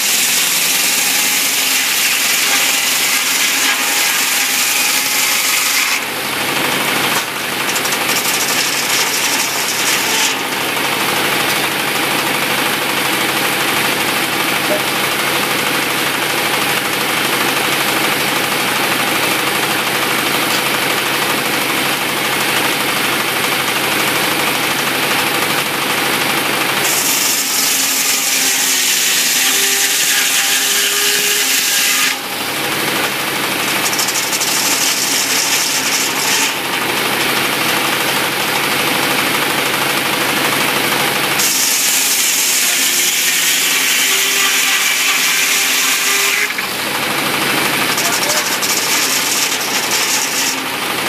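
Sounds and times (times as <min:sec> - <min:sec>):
sawmill engine drone: 0:00.0 - 0:51.0.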